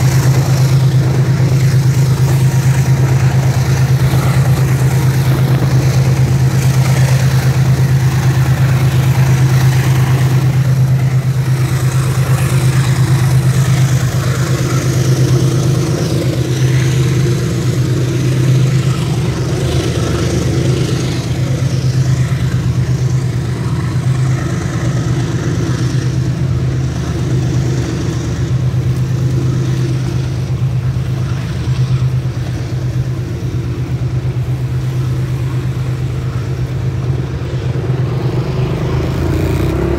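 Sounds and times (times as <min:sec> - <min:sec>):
constant rushing noise: 0:00.0 - 0:39.9
motorcycle engine humming: 0:00.0 - 0:39.9.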